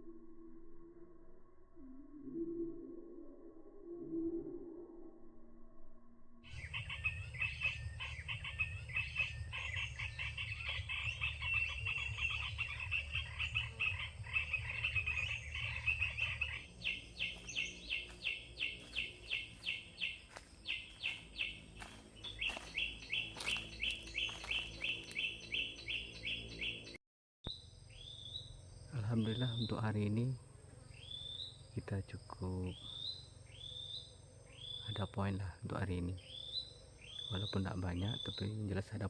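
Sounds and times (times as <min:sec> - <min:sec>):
birds chirping: 0:06.5 - 0:39.0.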